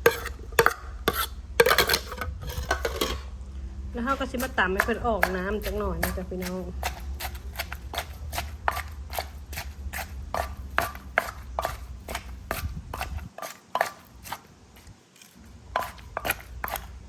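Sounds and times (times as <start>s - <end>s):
pestle pounding in a mortar: 0.0s - 3.2s, 4.2s - 14.9s, 15.7s - 17.0s
low steady hum: 0.0s - 17.0s.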